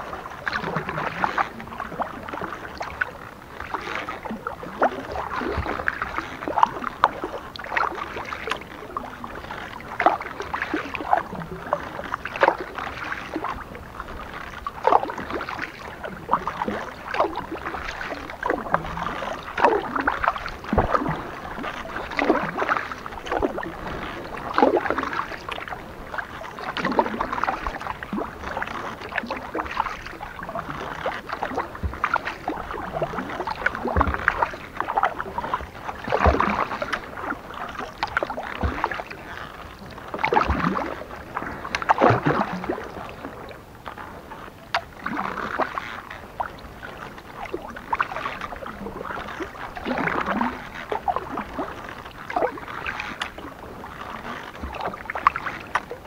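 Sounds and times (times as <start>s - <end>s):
kayak paddle strokes in water: 0.0s - 56.0s
water splashing and trickling: 0.0s - 56.0s.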